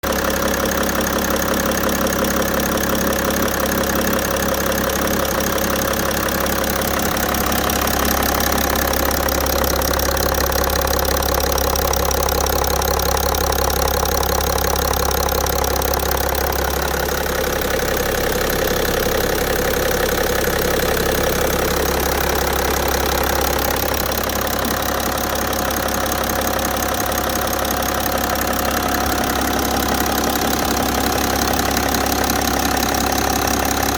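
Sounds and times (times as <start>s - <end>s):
diesel engine idling: 0.0s - 33.9s
engine knocking: 0.0s - 33.9s.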